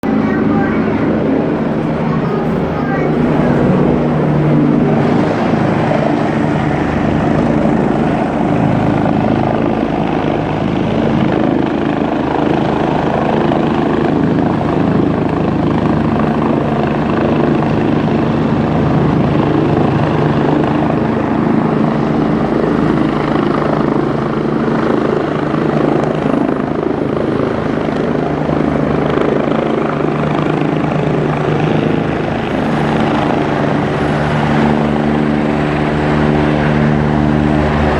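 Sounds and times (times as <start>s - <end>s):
helicopter rotor and turbine drone: 0.0s - 37.9s.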